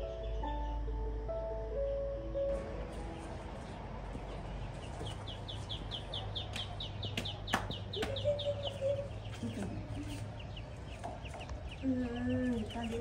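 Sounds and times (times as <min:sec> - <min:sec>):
ducklings peeping: 0:00.0 - 0:00.9, 0:02.9 - 0:13.0.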